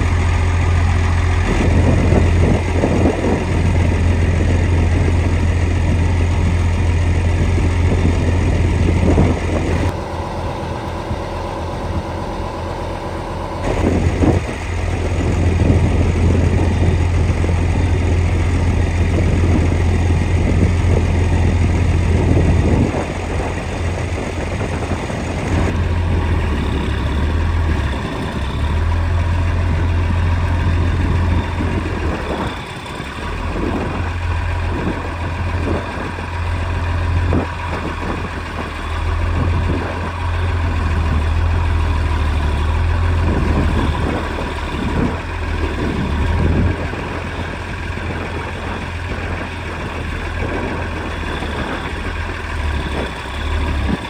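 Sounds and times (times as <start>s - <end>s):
truck engine running at low revs: 0.0s - 54.0s.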